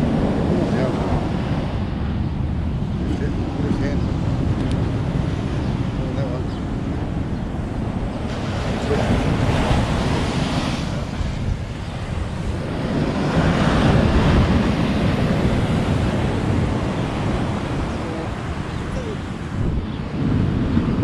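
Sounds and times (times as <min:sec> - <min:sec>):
surf breaking on beach: 0:00.0 - 0:21.0
wind buffeting microphone: 0:00.0 - 0:21.0.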